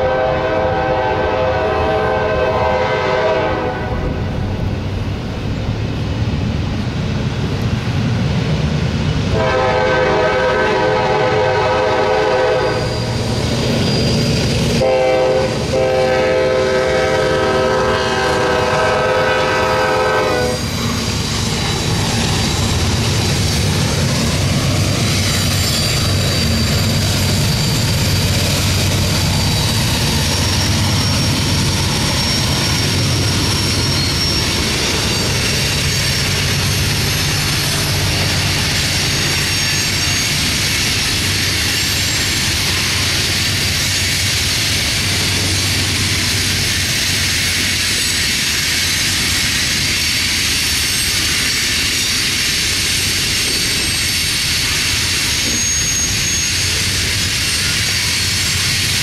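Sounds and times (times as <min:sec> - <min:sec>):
diesel locomotive engines droning: 0:00.0 - 0:59.0
freight cars rolling on rails: 0:00.0 - 0:59.0.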